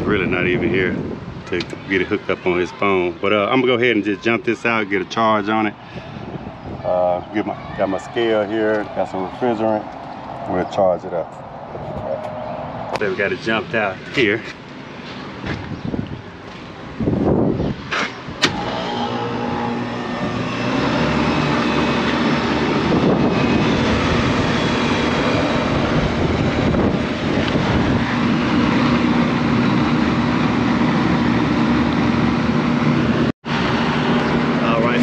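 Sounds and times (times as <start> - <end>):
air conditioning unit humming: 0.0 - 14.4, 18.4 - 35.0.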